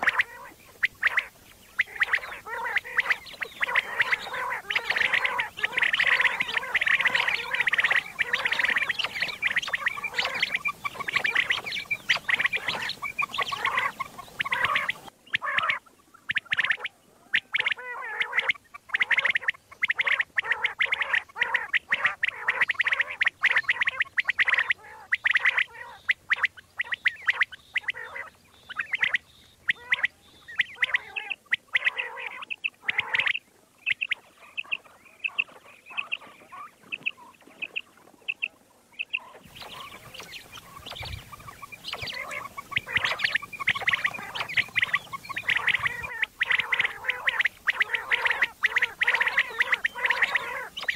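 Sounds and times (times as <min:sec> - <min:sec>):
quail calling: 0:00.0 - 0:50.9.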